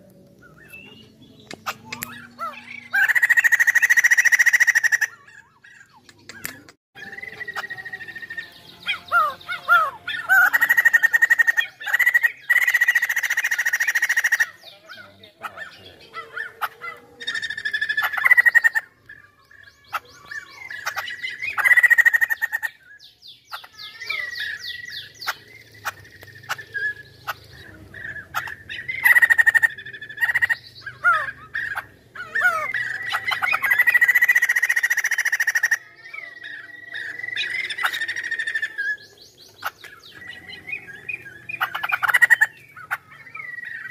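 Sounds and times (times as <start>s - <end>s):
laughingthrush singing: 0.0s - 43.9s.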